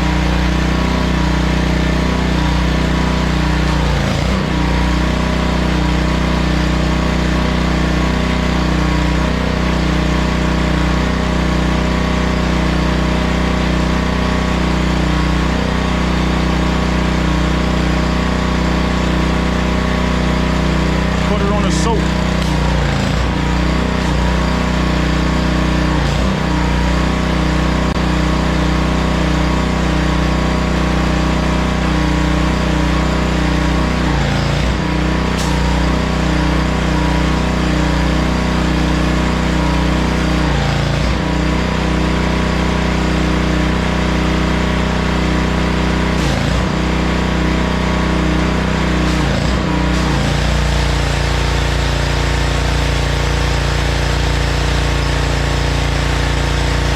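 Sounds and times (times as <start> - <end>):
pressure washer engine running: 0.0 - 56.9.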